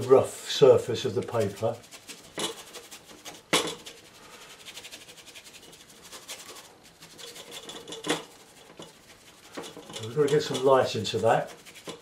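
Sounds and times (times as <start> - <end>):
paintbrush scrubbing on paper: 0.0 - 12.0.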